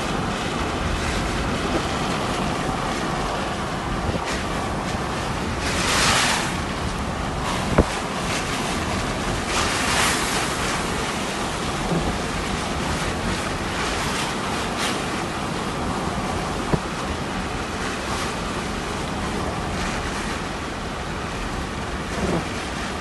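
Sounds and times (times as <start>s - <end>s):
rushing floodwater: 0.0s - 23.0s
wind buffeting microphone: 0.0s - 23.0s.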